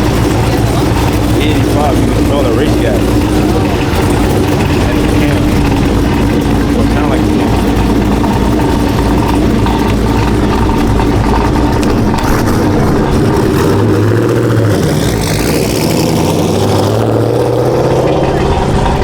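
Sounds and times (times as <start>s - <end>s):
car engine running loudly: 0.0s - 19.0s.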